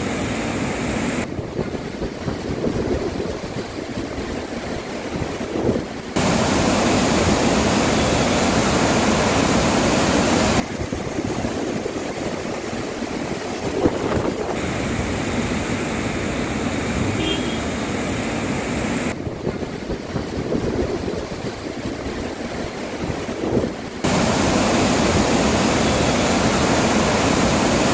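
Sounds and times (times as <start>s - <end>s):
fast water rushing: 0.0s - 27.9s
river pouring over bridge: 0.0s - 27.9s.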